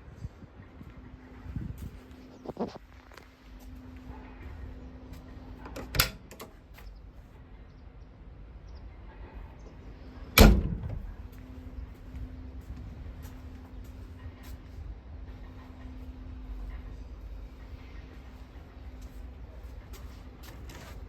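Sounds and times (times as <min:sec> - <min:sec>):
low engine rumble and hum: 0:00.0 - 0:21.0.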